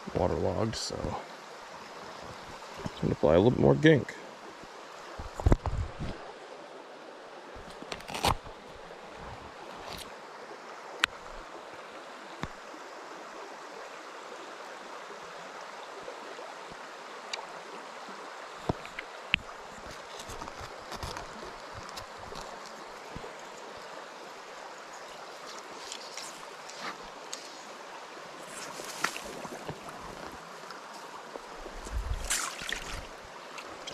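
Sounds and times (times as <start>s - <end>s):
rocky stream running: 0.0s - 33.9s.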